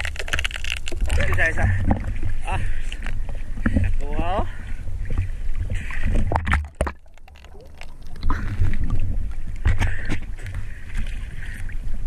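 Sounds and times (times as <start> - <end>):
low rumbling buffets on camera: 0.0 - 12.0
seawater sloshing and splashing: 0.0 - 12.0.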